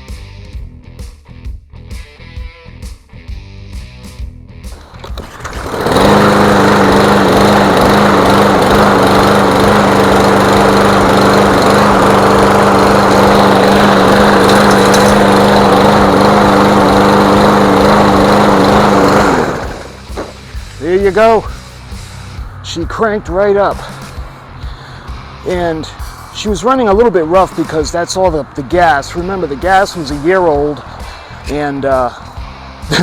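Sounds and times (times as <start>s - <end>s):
lawn mower engine running: 4.7s - 33.0s.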